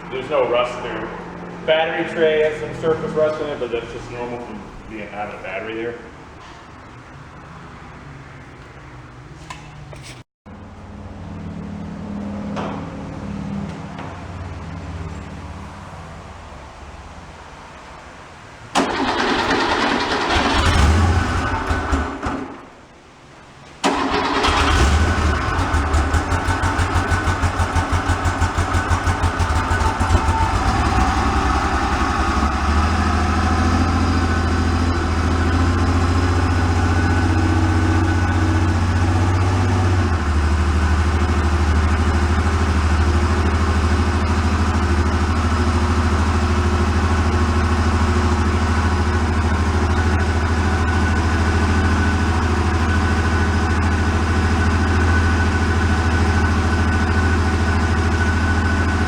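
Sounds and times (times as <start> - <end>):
car engine idling: 0.0 - 8.7, 10.5 - 59.0.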